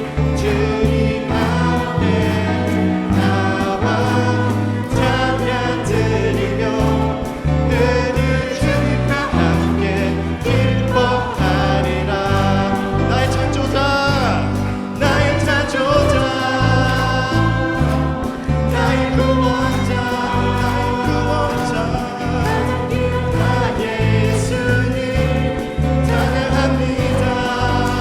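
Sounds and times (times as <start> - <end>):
group of people singing: 0.0 - 28.0
praise band playing: 0.0 - 28.0.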